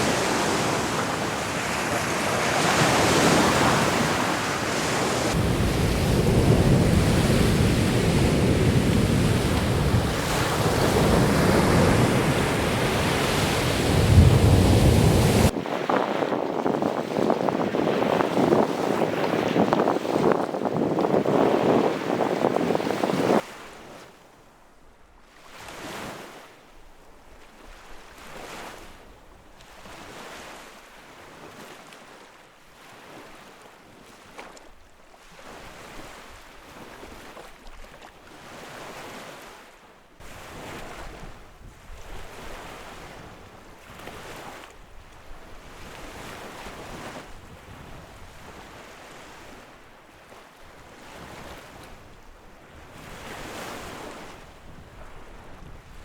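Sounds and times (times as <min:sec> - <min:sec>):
lake waves washing onto shore: 0:00.0 - 0:23.7, 0:27.4 - 0:56.0.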